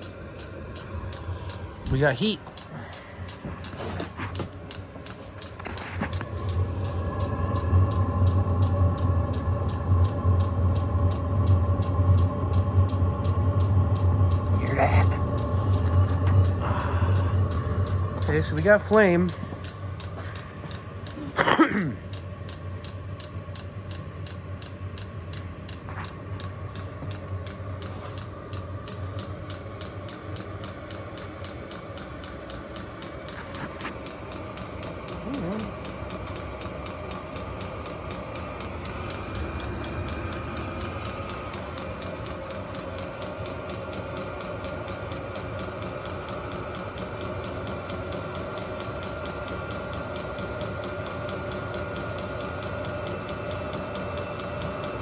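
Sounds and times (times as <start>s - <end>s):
fuel pump ticking: 0.0s - 13.4s, 14.3s - 55.0s
heater blower humming: 0.0s - 55.0s.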